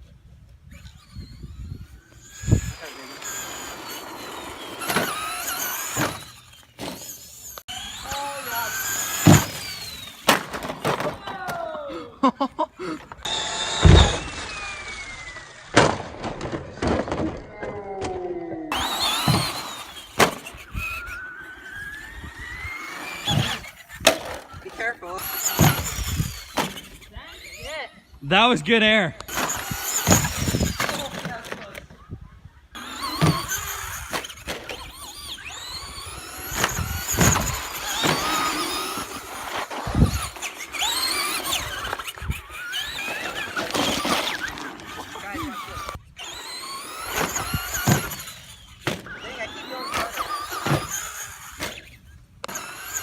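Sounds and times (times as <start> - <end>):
electric motor whining: 0.5 - 11.6, 12.9 - 17.2, 18.0 - 53.0.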